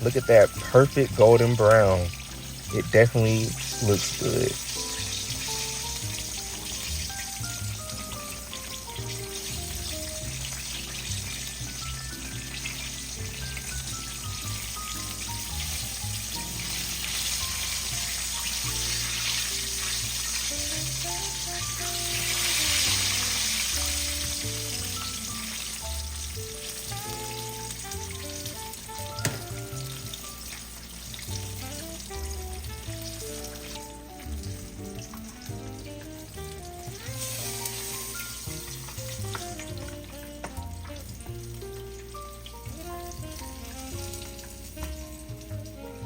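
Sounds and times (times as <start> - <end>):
background music: 0.0 - 46.0
chicken frying in hot oil: 0.0 - 46.0.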